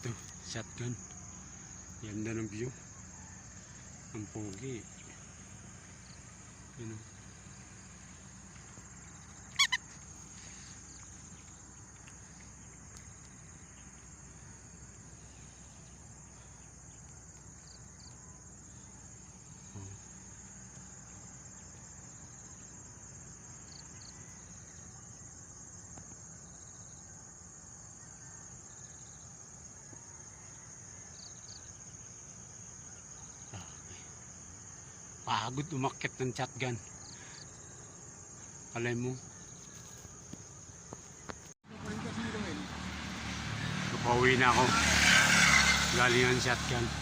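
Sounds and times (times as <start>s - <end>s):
insect chorus buzzing: 0.0s - 47.0s.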